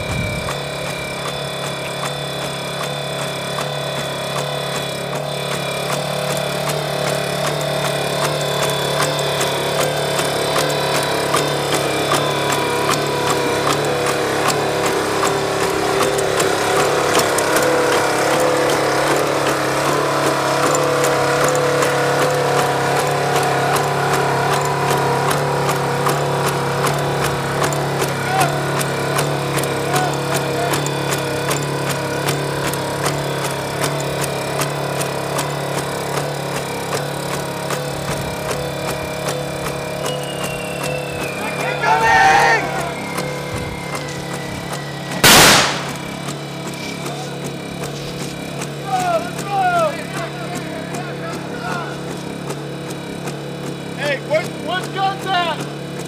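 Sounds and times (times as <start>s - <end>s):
robot engine drone with whine: 0.0s - 52.4s.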